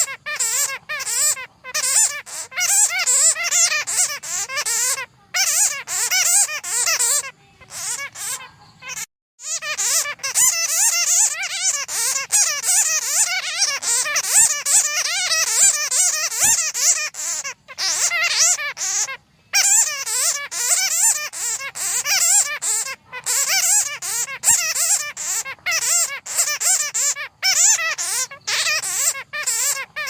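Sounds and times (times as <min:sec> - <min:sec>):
bats chattering: 0:00.0 - 0:30.0.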